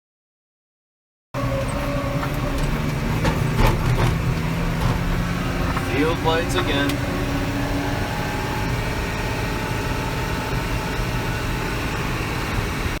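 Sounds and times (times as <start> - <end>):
tractor engine running: 1.4 - 13.0.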